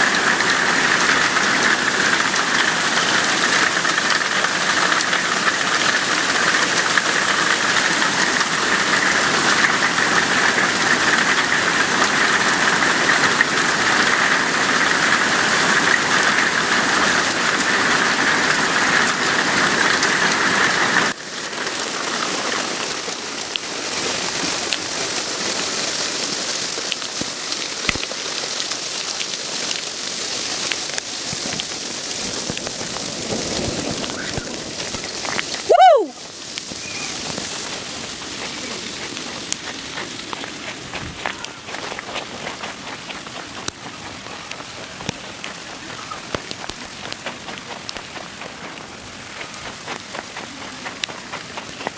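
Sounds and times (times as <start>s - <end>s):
hailstones hissing on ground: 0.0s - 51.9s
sharp ticks of hailstones: 0.1s - 23.7s, 25.9s - 51.9s.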